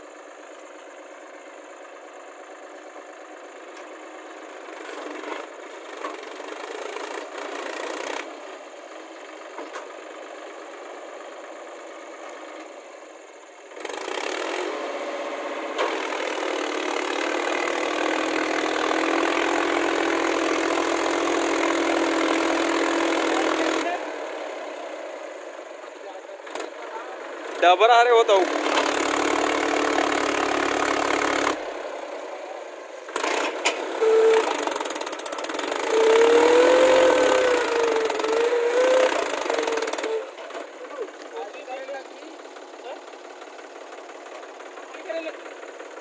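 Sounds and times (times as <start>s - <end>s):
tractor diesel engine: 0.0s - 46.0s.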